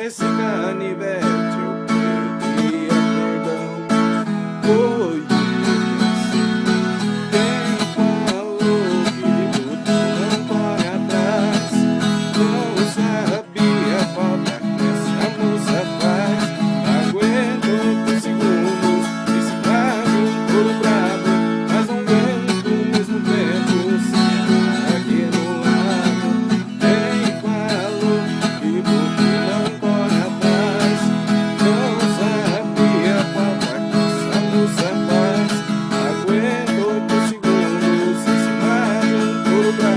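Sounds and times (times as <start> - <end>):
plucked string guitar melody: 0.0 - 39.9.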